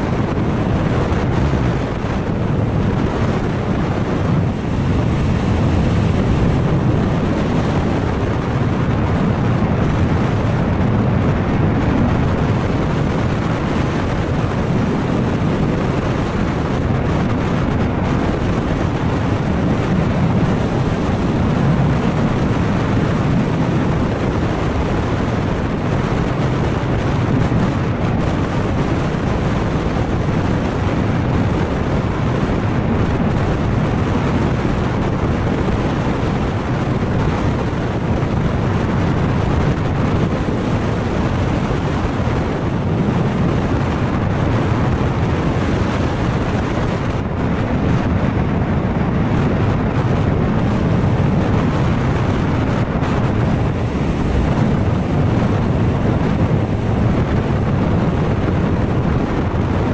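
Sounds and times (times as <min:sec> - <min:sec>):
motor scooter engine drone: 0:00.0 - 0:59.9
wind rush on microphone: 0:00.0 - 0:59.9.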